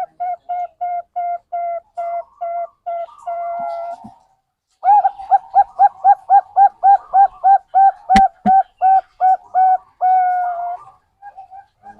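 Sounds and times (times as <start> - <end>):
dove cooing: 0.0 - 4.2, 4.8 - 11.9.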